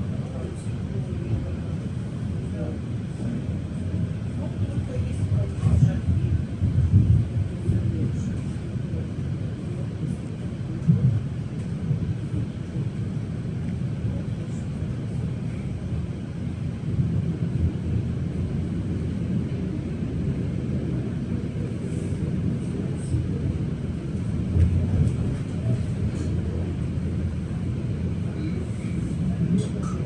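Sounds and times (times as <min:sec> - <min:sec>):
train rumble inside carriage: 0:00.0 - 0:30.0.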